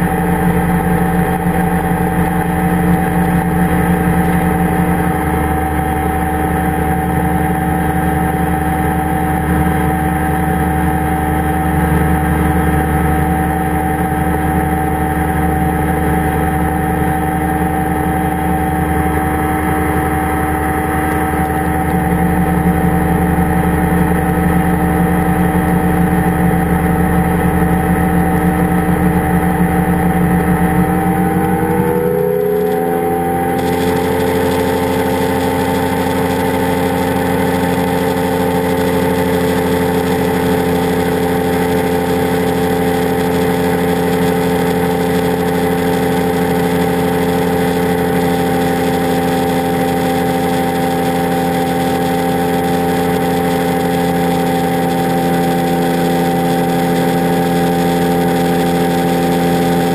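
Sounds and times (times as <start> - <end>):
engine and propeller running: 0.0 - 59.9.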